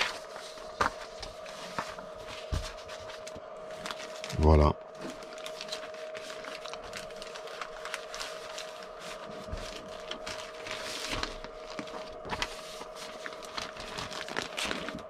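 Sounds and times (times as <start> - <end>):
faint steady hum: 0.0 - 15.0
paper rustling: 0.0 - 15.0.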